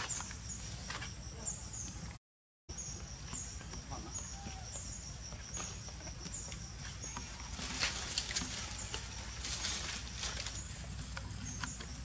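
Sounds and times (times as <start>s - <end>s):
high chirp of insect or bird: 0.0s - 2.1s, 2.7s - 12.0s.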